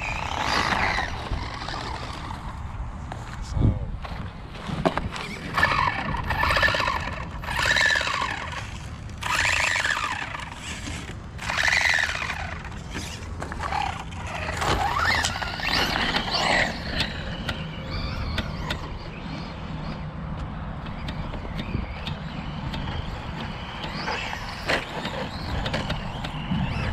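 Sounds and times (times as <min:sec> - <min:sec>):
electric motors whining: 0:00.0 - 0:03.4, 0:04.3 - 0:26.9.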